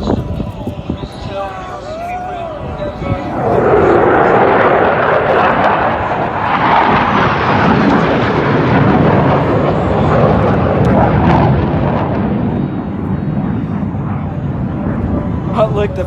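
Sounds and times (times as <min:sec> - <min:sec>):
jet flying past: 0:00.0 - 0:16.0.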